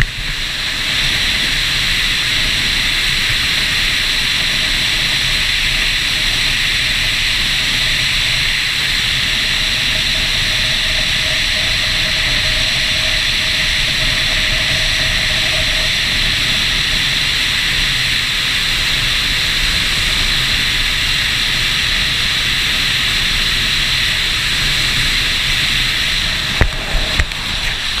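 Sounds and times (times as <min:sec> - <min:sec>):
motorcycle running gear: 0:00.0 - 0:28.0
wind rush over microphone: 0:00.0 - 0:28.0.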